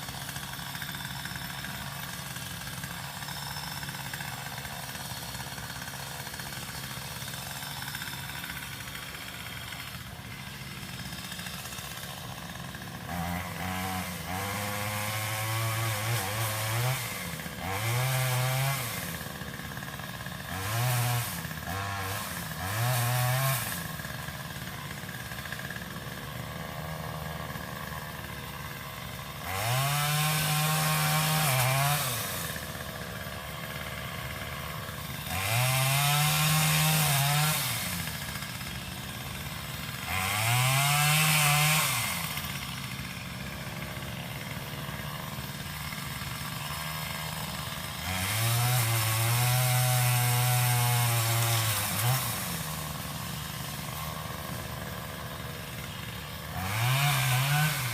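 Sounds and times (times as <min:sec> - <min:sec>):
pole saw engine revving and idling: 0:00.0 - 0:57.9.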